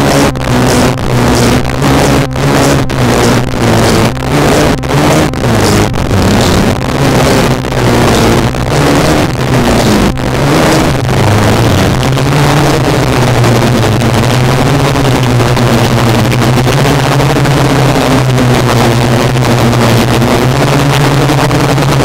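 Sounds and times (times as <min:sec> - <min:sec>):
electronic drone-noise music: 0:00.0 - 0:22.0.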